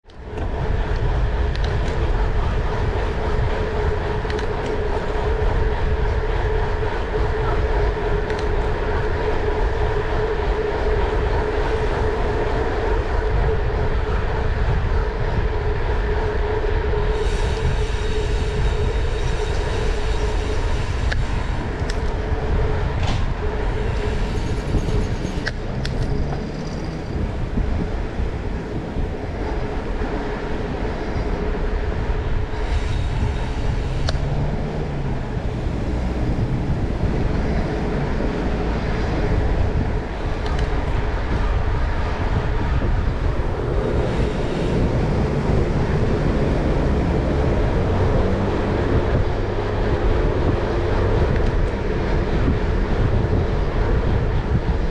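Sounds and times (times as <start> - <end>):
constant hum: 0.0 - 54.9
vehicle engine rumbling: 0.0 - 54.9.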